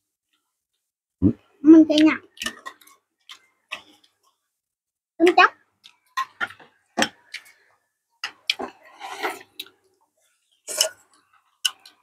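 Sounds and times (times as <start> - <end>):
noisy eating: 1.2 - 4.5, 5.3 - 12.0.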